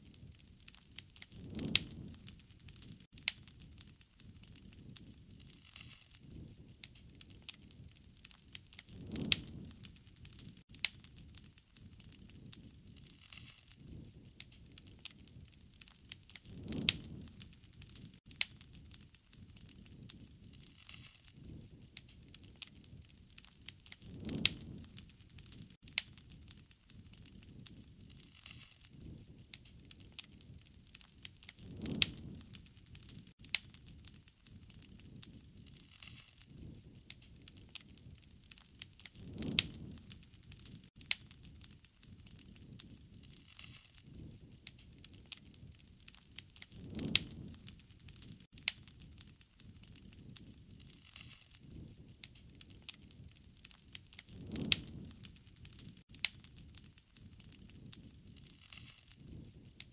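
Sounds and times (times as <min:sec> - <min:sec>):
rushing swell of flames: 0:00.0 - 0:59.8
campfire crackling and popping: 0:00.0 - 0:59.9.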